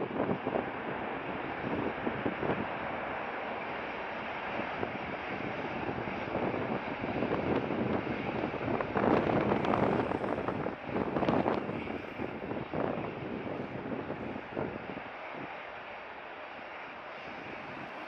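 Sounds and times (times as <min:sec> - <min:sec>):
wind on microphone: 0:00.0 - 0:15.5, 0:17.1 - 0:18.0
jet engines roaring: 0:00.0 - 0:18.0.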